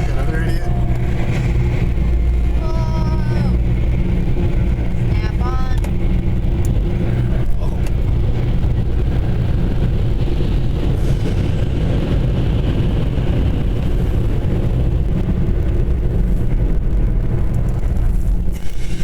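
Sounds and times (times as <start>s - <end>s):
car wash machinery rushing rumble: 0.0s - 19.0s.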